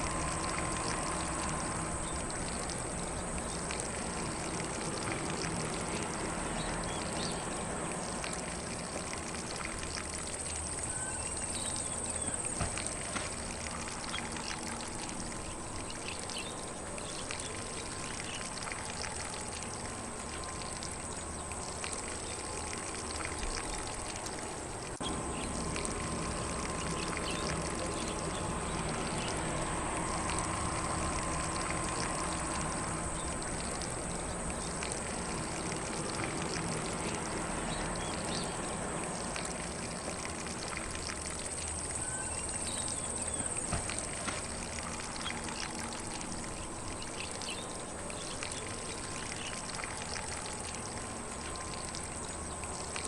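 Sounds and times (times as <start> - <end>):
sprinkler spraying water: 0.0 - 53.0.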